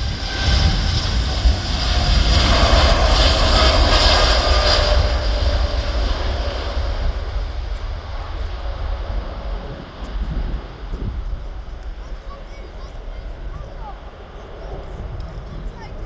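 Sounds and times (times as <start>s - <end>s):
jet airliner engines roaring: 0.0s - 16.0s.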